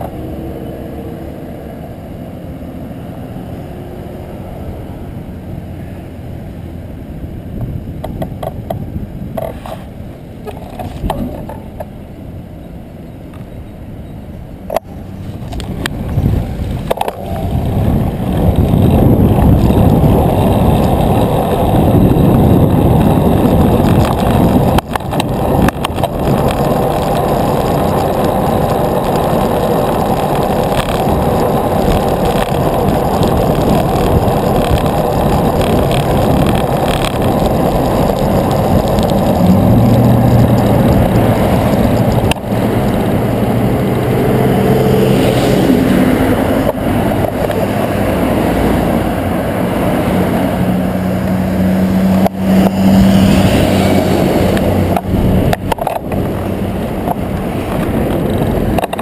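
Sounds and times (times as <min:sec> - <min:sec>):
motor vehicle engines humming: 0:00.0 - 0:59.0
road and wind noise: 0:00.0 - 0:59.0.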